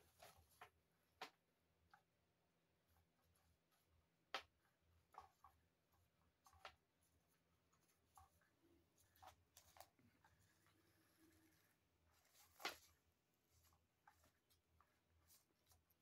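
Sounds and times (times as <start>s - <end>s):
light taps and scratches: 2.9s - 16.0s.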